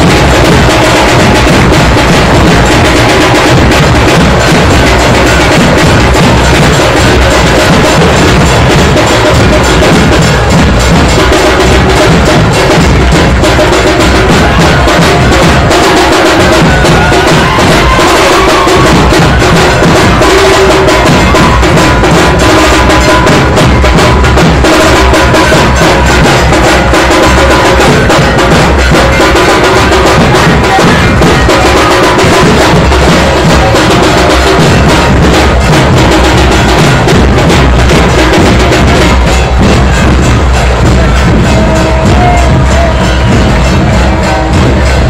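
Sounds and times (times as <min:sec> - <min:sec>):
deep booming drum beat: 0:00.0 - 0:45.0
fast loud drumming: 0:00.0 - 0:45.0.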